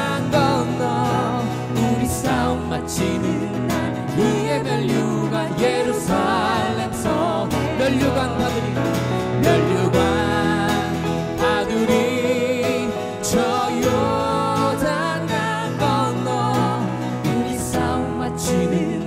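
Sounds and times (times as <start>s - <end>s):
acoustic guitar: 0.0s - 19.0s
man and woman singing a hymn: 0.0s - 19.0s.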